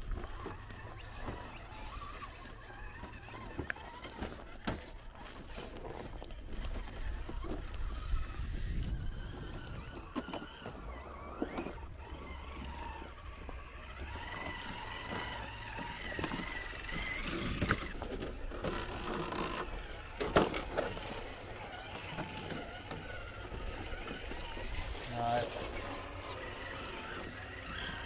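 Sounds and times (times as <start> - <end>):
electric motors whining: 0.0 - 28.0.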